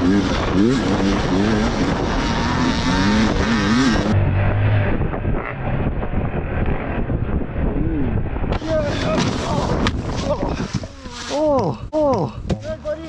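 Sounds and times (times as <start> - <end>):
dirt bike engine revving: 0.0 - 11.4
dull rough rumble with knocks: 0.0 - 13.0.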